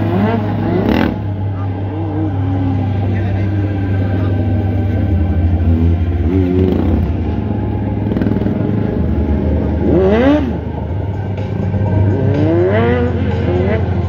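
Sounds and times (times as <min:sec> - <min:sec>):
quad bike engine revving: 0:00.0 - 0:02.9, 0:04.2 - 0:10.8, 0:12.0 - 0:14.0
motorcycle engine revving: 0:00.0 - 0:14.0.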